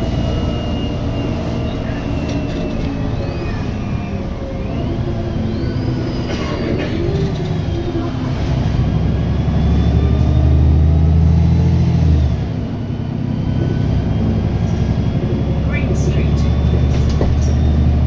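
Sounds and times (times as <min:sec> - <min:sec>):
bus diesel engine accelerating: 0:00.0 - 0:18.0.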